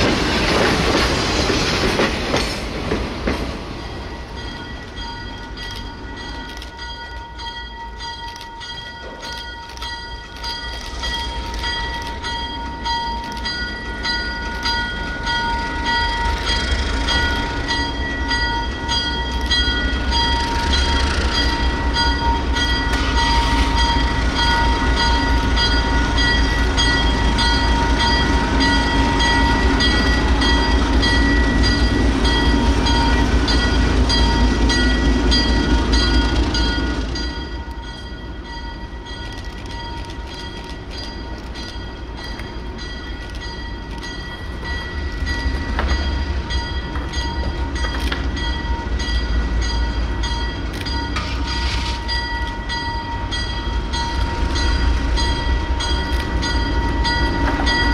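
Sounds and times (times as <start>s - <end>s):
diesel locomotive engine: 0.0s - 57.9s
locomotive bell ringing: 3.8s - 57.9s.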